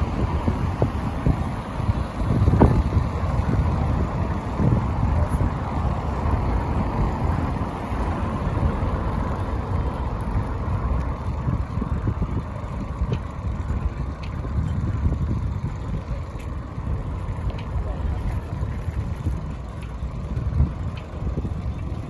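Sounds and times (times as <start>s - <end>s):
road traffic passing: 0.0s - 22.0s
wind buffeting microphone: 0.0s - 22.0s.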